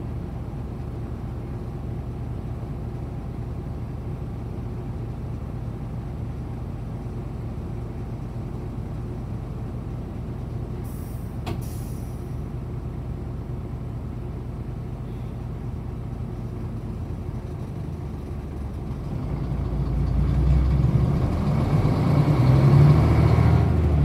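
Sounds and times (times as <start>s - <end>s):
bus diesel engine revving: 0.1s - 24.0s.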